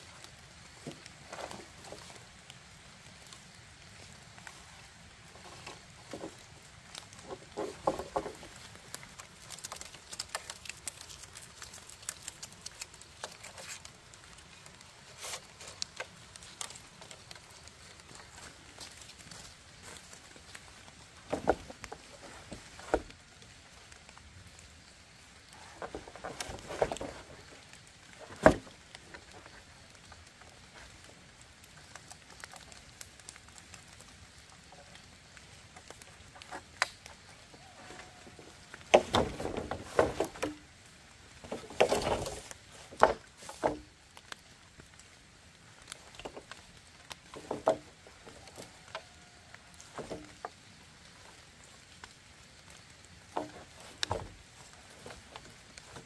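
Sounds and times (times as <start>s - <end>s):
rustling: 0.0s - 45.1s, 45.7s - 56.0s.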